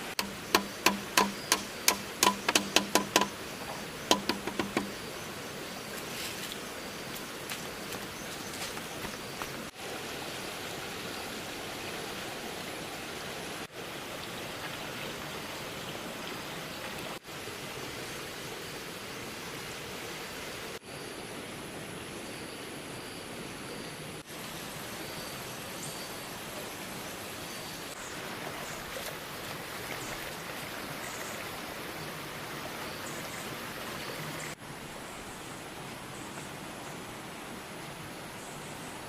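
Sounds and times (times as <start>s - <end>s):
flowing water rushing: 0.0s - 20.8s, 24.2s - 39.0s.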